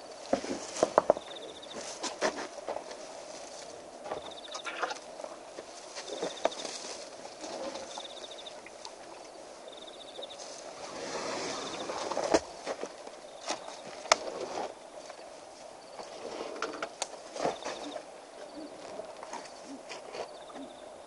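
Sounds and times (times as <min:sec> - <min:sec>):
elephant chewing dry grass: 0:00.3 - 0:09.2, 0:10.3 - 0:20.7.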